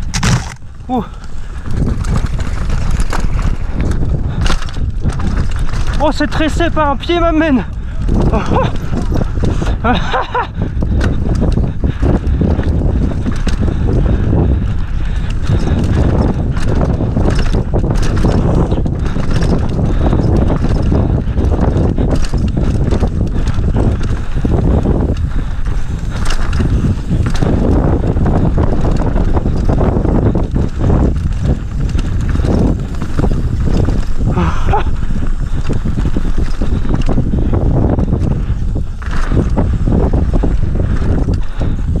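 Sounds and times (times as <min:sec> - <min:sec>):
bike rattling over bumps: 0:00.0 - 0:42.0
tyres rumbling on dirt: 0:00.0 - 0:42.0
wind on microphone: 0:00.0 - 0:42.0.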